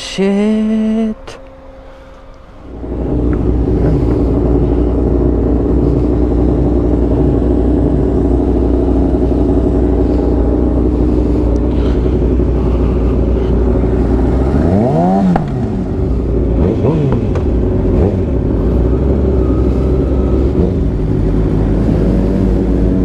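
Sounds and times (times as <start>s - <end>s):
wind rumble: 2.3s - 23.0s
motorcycle engine running: 2.6s - 23.0s.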